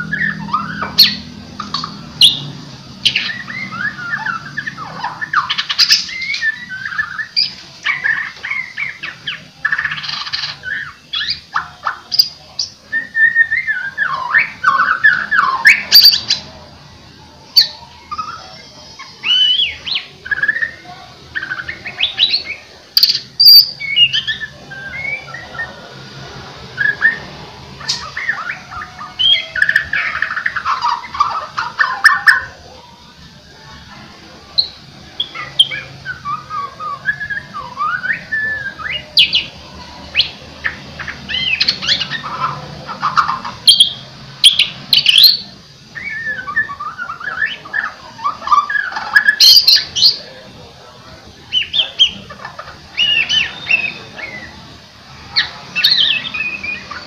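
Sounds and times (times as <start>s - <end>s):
bird singing whistles and chirps: 0.0s - 16.4s, 17.6s - 25.8s, 26.8s - 32.5s, 34.6s - 39.5s, 40.1s - 50.3s, 52.9s - 54.6s, 55.3s - 57.0s.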